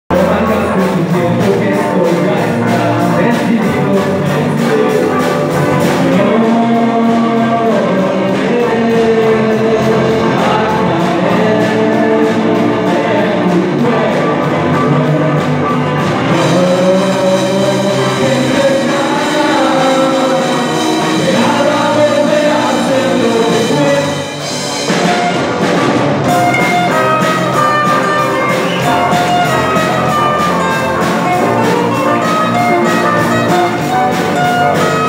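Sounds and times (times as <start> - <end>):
high ticking beat: 0.1 - 35.0
live rock band playing: 0.1 - 35.0
person singing: 0.1 - 35.0.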